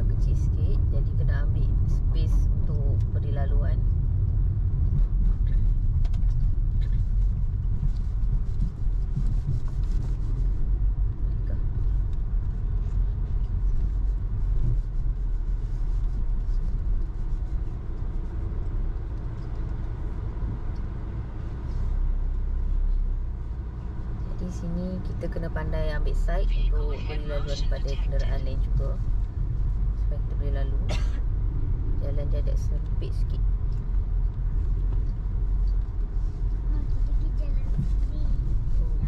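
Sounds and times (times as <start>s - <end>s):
car engine and tyre rumble: 0.0s - 39.0s.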